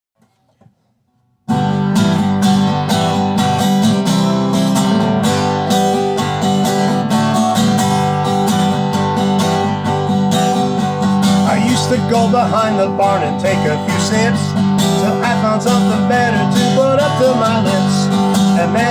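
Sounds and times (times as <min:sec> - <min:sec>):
strummed acoustic guitar: 0:00.2 - 0:18.9.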